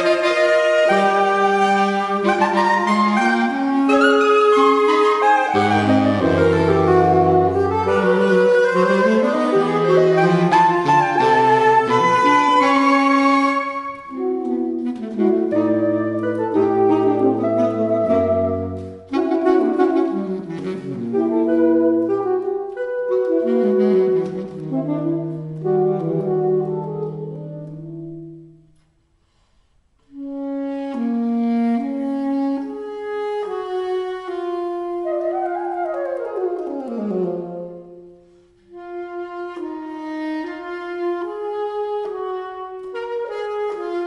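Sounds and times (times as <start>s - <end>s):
saxophones playing chamber music: 0.0s - 28.8s, 30.0s - 44.0s.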